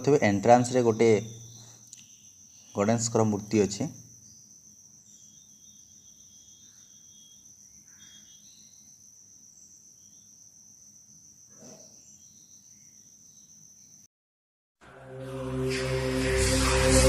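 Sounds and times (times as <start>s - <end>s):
crickets trilling: 0.0s - 14.1s.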